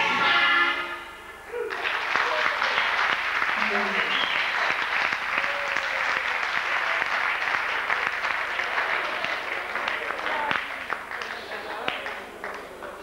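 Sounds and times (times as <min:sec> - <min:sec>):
audience applauding: 0:01.3 - 0:13.0.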